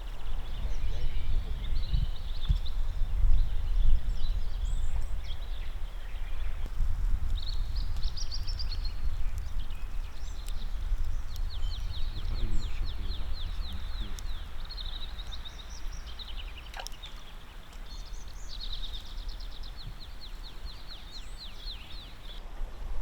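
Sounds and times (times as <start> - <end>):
songbird chirping: 0.0 - 22.4.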